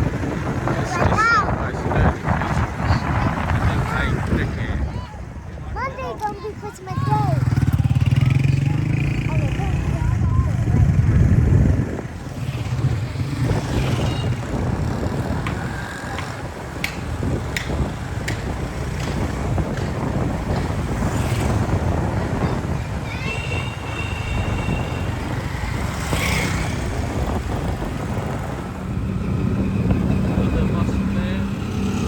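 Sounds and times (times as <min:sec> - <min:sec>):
vehicle engines running: 0:00.0 - 0:32.0.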